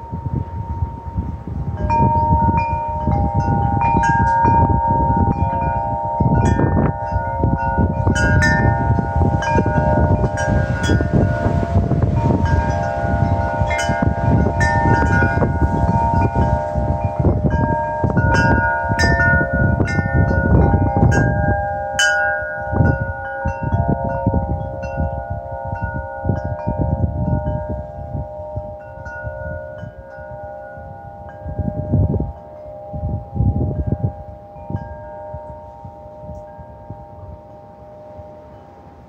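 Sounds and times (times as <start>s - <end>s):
low wind rumble: 0.0s - 39.0s
wind chimes ringing: 0.0s - 39.0s.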